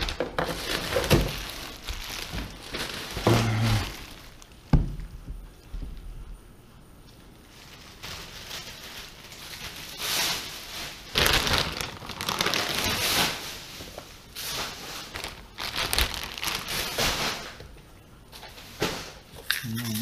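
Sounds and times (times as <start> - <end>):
plastic bags rustling: 0.0 - 5.7, 7.2 - 19.4.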